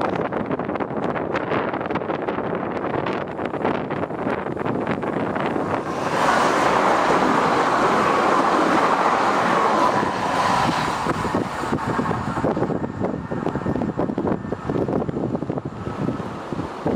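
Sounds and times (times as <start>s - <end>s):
train passing at speed: 0.0s - 16.9s
wind buffeting microphone: 0.0s - 16.9s.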